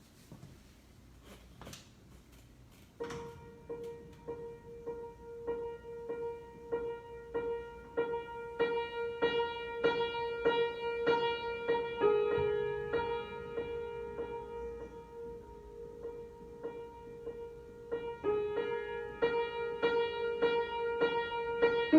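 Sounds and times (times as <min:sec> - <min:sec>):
solo piano improvisation: 0:02.9 - 0:21.9.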